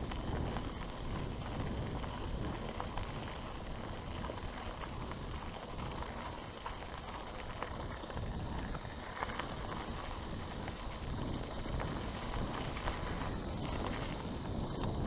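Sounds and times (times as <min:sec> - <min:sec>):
bike rattling over bumps: 0:00.0 - 0:15.0
tyres crunching over gravel: 0:00.0 - 0:15.0
wind rumble on microphone: 0:00.0 - 0:15.0.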